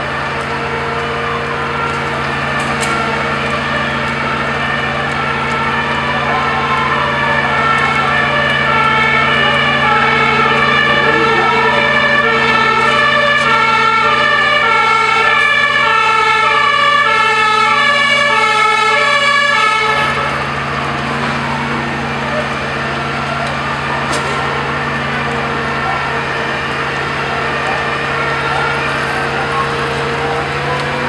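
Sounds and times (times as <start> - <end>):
low engine drone: 0.0 - 31.0
two-tone fire engine sirens: 0.0 - 31.0.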